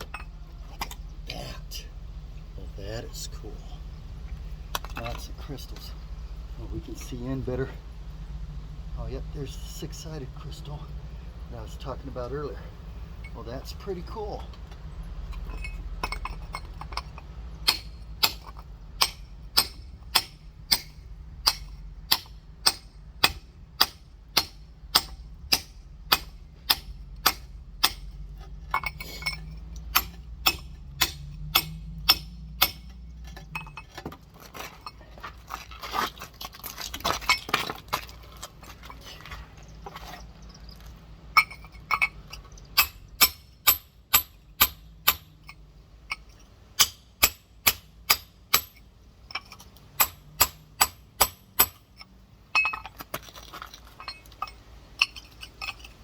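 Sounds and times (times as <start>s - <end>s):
rough handling and scraping: 0.0s - 7.9s, 9.0s - 46.6s, 48.3s - 56.0s.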